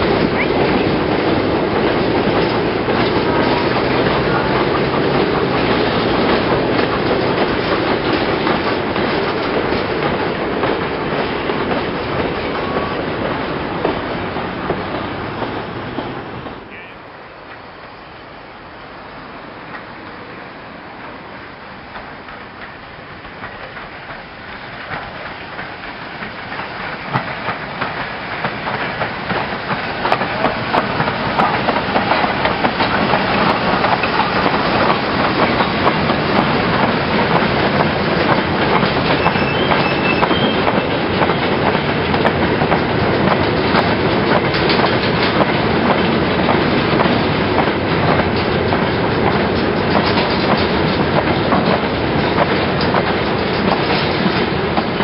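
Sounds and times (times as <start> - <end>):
wagon wheels rattling over track: 0.0 - 16.9, 21.9 - 55.0
steam goods train rolling past: 0.0 - 55.0.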